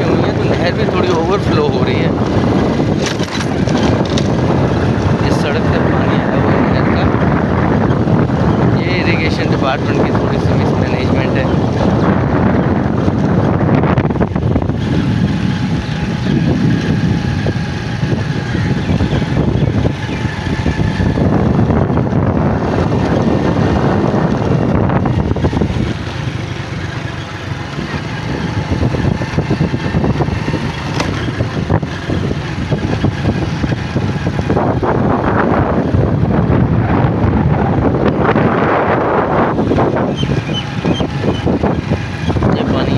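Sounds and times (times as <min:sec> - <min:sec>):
vehicle running along road: 0:00.0 - 0:42.9
wind buffeting microphone: 0:00.0 - 0:42.9.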